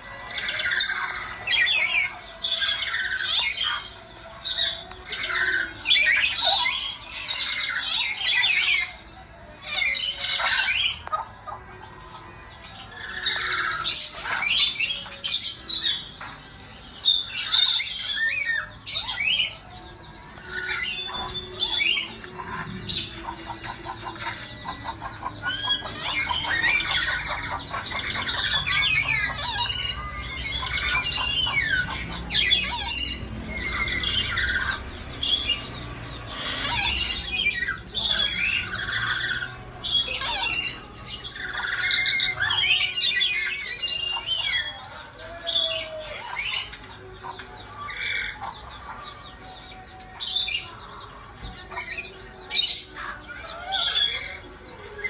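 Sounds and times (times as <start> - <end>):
parrot squawking: 0.0 - 16.4, 17.0 - 55.0.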